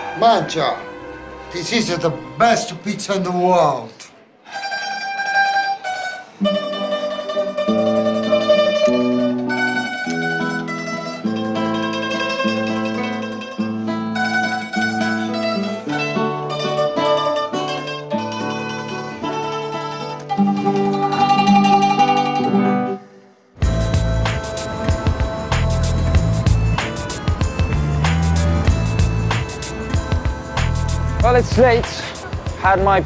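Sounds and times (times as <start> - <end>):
mandolin melody: 0.0 - 33.0
acoustic guitar accompaniment: 4.6 - 33.0.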